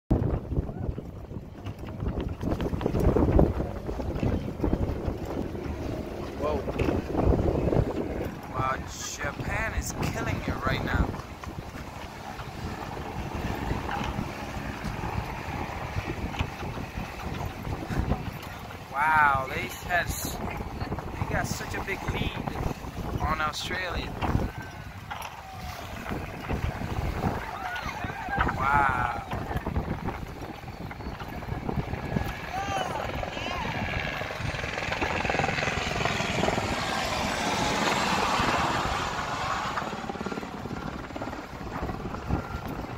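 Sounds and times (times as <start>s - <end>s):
choppy water splashing: 0.1s - 42.9s
wind buffeting microphone: 0.1s - 42.9s.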